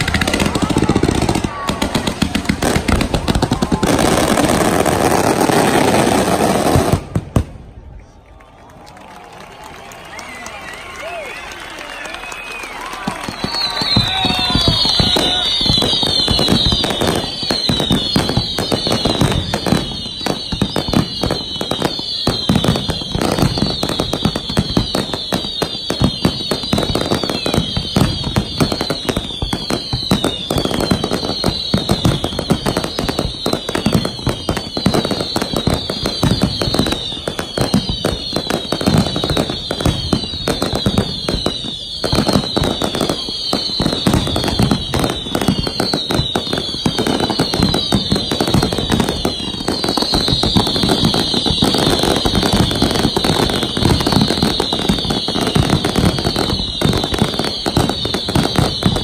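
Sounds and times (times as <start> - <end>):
fireworks bangs and crackle: 0.0 - 59.0
high falling firework whistles: 10.1 - 59.0.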